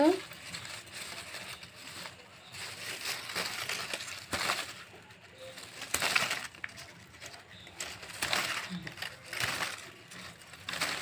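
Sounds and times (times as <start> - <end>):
dry stalks crackling under a knife: 0.0 - 11.0.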